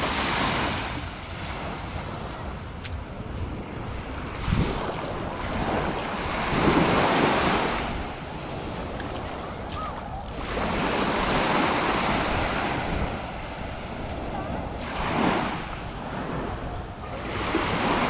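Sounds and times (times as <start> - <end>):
small waves breaking on a beach: 0.0 - 18.0
wind rumbling on microphone: 0.0 - 18.0.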